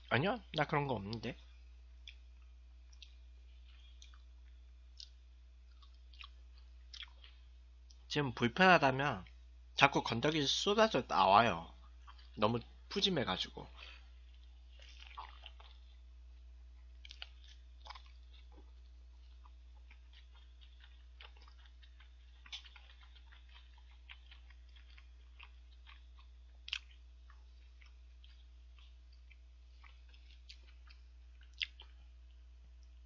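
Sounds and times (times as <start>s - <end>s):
man chewing food: 0.0s - 8.1s, 11.6s - 33.0s
steady low hum: 0.0s - 33.0s.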